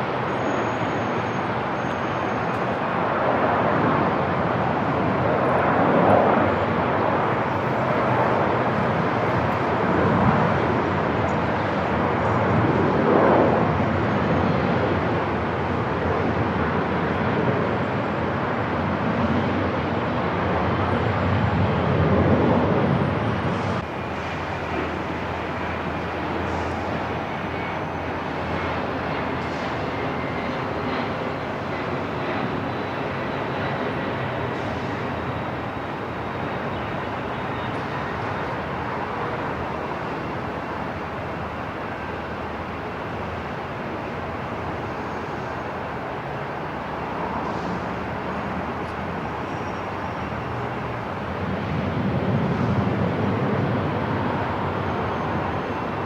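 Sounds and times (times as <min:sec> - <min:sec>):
aircraft engine noise: 0:00.0 - 0:56.0.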